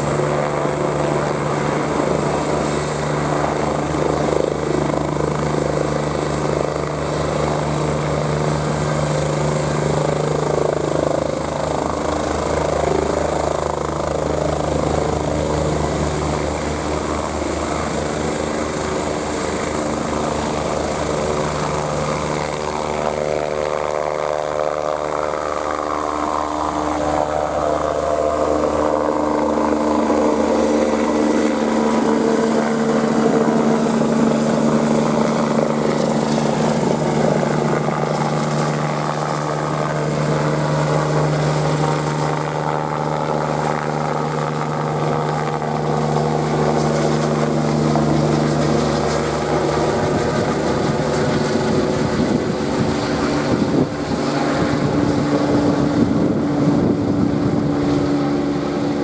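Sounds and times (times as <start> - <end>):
helicopter rotor beat: 0.0 - 59.0
helicopter turbine whine: 0.0 - 59.0.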